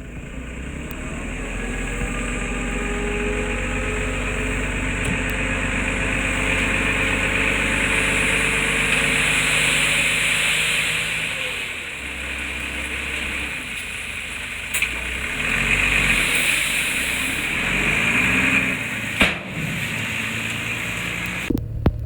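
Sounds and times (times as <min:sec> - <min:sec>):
heavy machinery diesel engine: 0:00.0 - 0:22.0.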